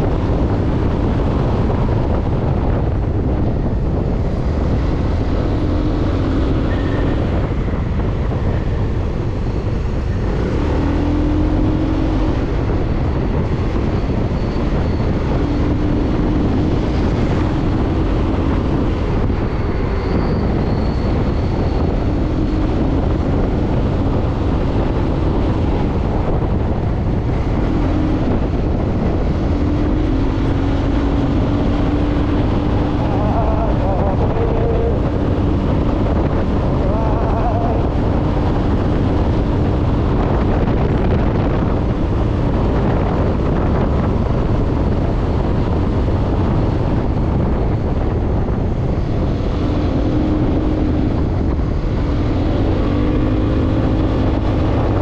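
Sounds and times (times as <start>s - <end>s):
motorcycle engine hum: 0.0s - 55.0s
wind rumble on microphone: 0.0s - 55.0s.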